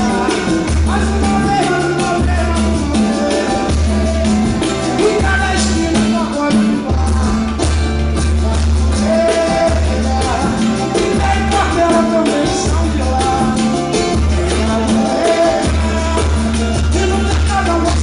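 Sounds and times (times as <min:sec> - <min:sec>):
deep bass notes: 0:00.0 - 0:18.0
percussion steady beat: 0:00.0 - 0:18.0.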